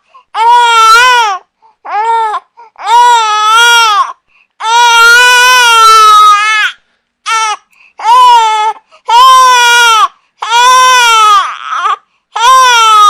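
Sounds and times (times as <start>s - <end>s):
infant crying: 0.3s - 13.0s.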